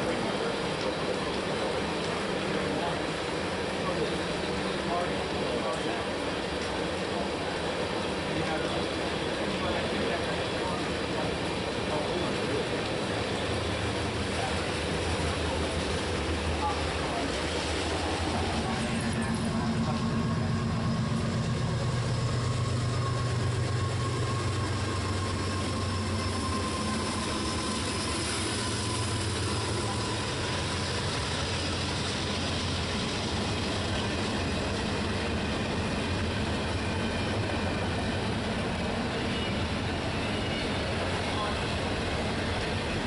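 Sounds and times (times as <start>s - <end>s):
diesel locomotive engine drone: 0.0s - 43.0s
train wheels rolling on rails: 0.0s - 43.0s.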